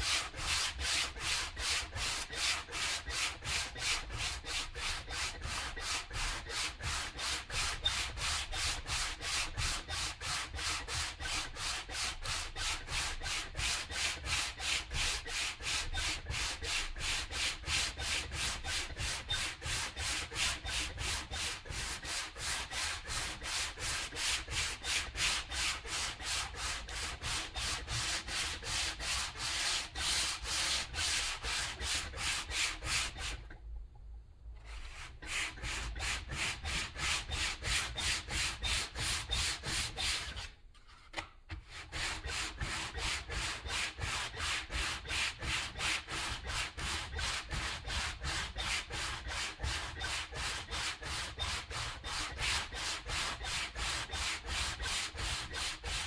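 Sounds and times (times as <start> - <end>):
hand sanding strokes: 0.0 - 33.5, 34.7 - 40.5, 41.6 - 56.0.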